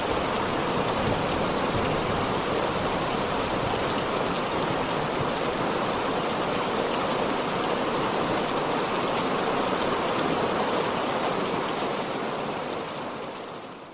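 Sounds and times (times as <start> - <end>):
heavy rain falling: 0.0 - 13.7.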